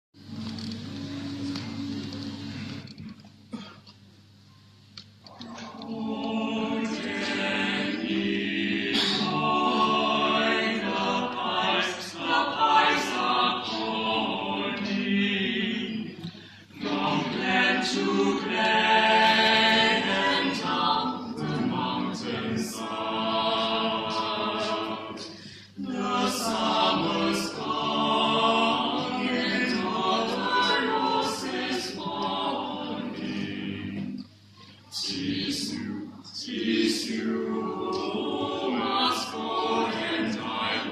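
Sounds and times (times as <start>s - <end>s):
a cappella group singing in harmony: 5.5s - 40.9s.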